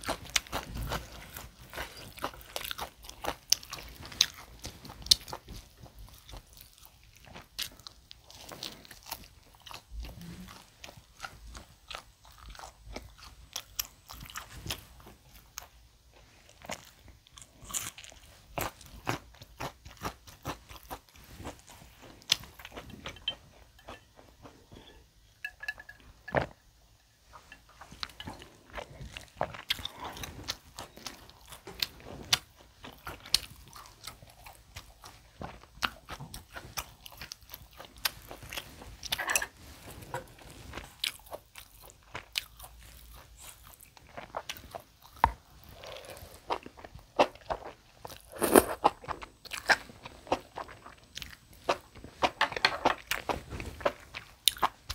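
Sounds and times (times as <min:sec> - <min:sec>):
chewing and biting steak: 0:00.0 - 0:15.8, 0:16.4 - 0:26.7, 0:27.3 - 0:54.9.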